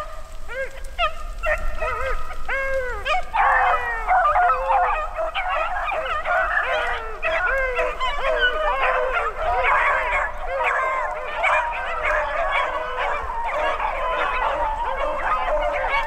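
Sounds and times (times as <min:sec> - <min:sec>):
dogs baying: 0:00.0 - 0:16.0.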